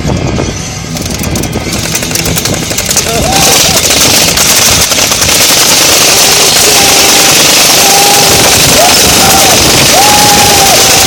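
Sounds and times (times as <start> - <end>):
airsoft guns firing bursts: 1.4 - 11.0.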